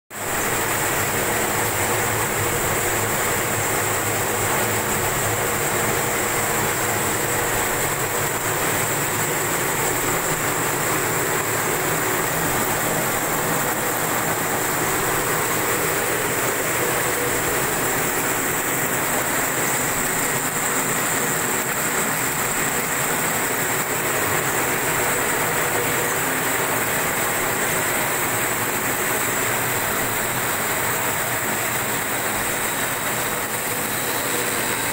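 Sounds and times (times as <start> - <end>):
carton gluing machine running: 0.3 - 34.9.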